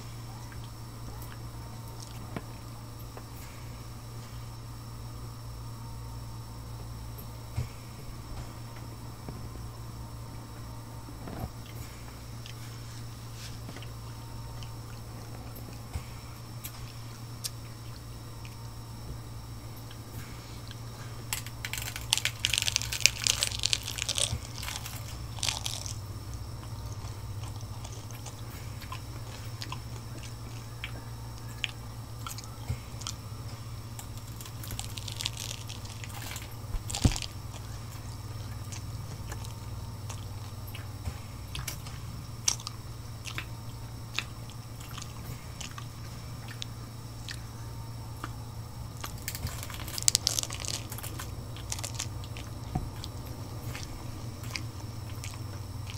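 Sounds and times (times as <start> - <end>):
low hum: 0.0 - 55.9
chewing clicks: 0.2 - 4.3, 10.6 - 55.9
crunching taco shell: 6.8 - 55.9.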